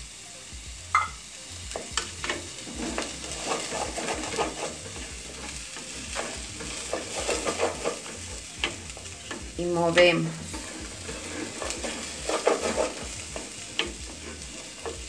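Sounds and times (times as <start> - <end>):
potatoes and onion sizzling in oil: 0.0 - 15.0
wooden spoon stirring and scraping: 1.7 - 15.0.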